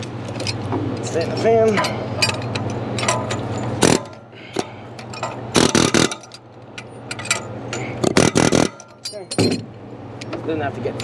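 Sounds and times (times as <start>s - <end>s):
metal tools clanking: 0.0s - 11.0s
steady low hum: 0.0s - 11.0s.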